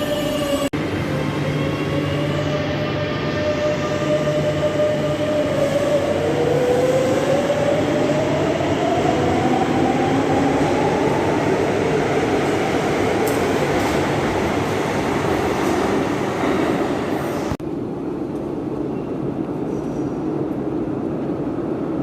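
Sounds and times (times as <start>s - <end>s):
train rail and running noise: 0.0s - 22.0s.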